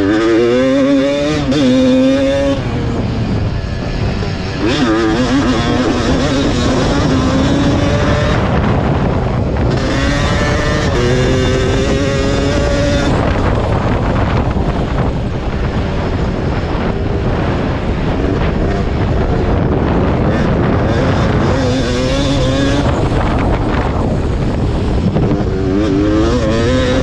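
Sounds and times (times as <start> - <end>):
two-stroke engine revving hard: 0.0 - 14.7, 18.2 - 27.0
wind buffeting microphone: 0.0 - 27.0.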